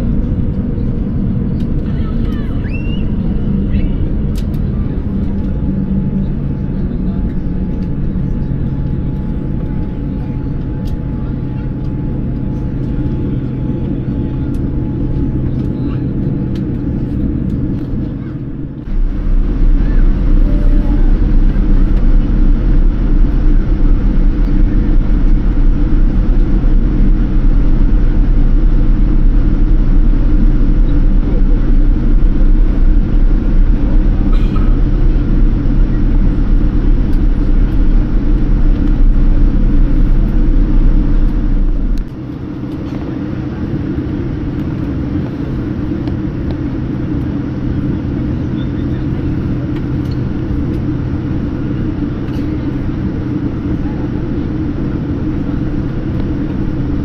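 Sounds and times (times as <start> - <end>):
aircraft cabin rumble: 0.0 - 57.0
hum of engines and air systems: 0.0 - 57.0.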